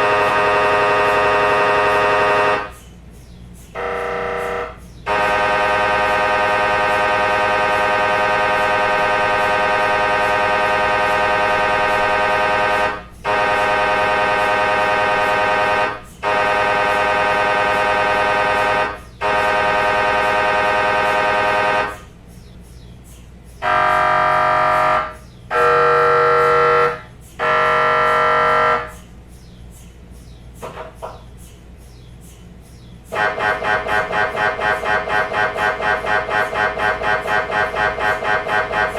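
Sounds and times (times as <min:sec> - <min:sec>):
mri scanner buzzing: 0:00.0 - 0:02.8, 0:03.8 - 0:22.0, 0:23.6 - 0:28.9, 0:33.2 - 0:38.9.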